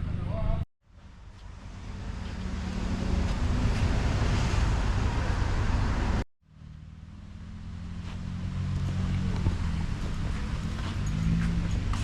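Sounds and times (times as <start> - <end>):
road noise: 0.0 - 12.0
car engine hum: 0.9 - 12.0.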